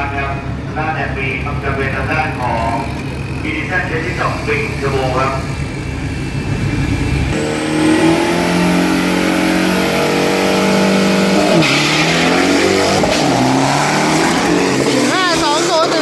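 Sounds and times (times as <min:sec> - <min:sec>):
diesel engine at high revs: 0:00.0 - 0:16.0.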